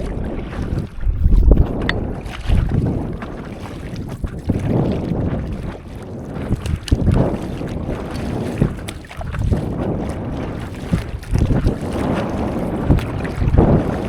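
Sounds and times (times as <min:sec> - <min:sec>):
water splashing and sloshing: 0:00.0 - 0:14.0
wind buffeting microphone: 0:00.0 - 0:14.0.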